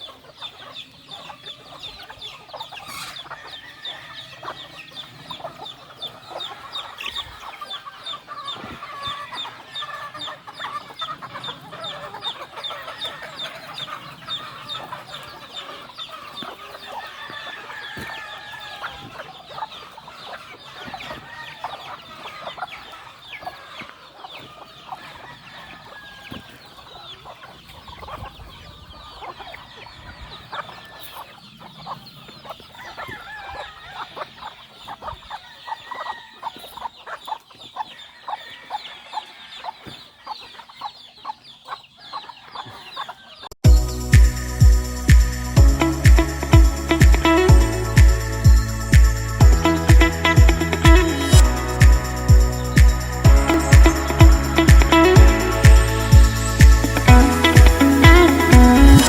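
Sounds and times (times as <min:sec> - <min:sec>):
roosters crowing: 0:00.0 - 0:28.3, 0:29.0 - 0:37.2, 0:37.8 - 0:40.3, 0:41.9 - 0:59.0
chickens clucking: 0:00.0 - 0:59.0.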